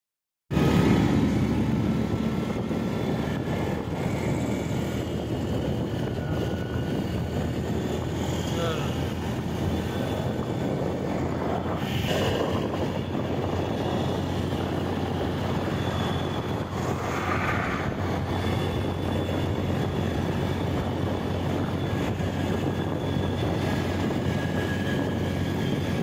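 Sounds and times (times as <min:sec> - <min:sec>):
wind noise on microphone: 0:00.5 - 0:26.0.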